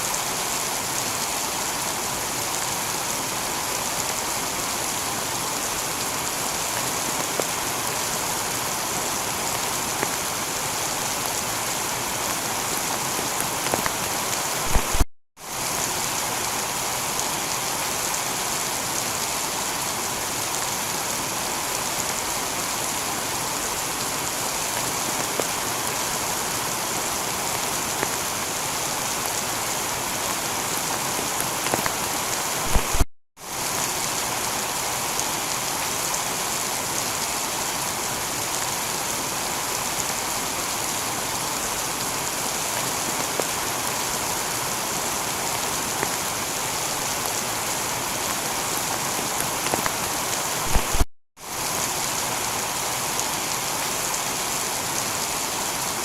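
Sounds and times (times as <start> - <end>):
heavy rain on a tiled roof: 0.0 - 56.0.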